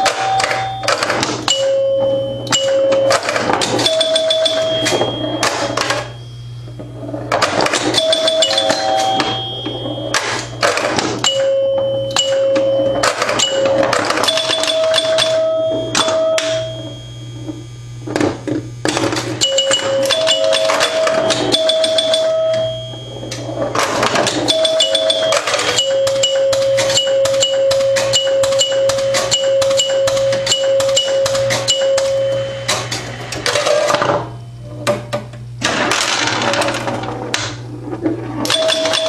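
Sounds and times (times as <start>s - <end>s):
pinball relays clicking: 0.0s - 6.2s, 6.8s - 17.0s, 18.2s - 39.0s
pinball bell ringing: 0.0s - 34.5s, 38.3s - 39.0s
steady low hum: 0.0s - 39.0s.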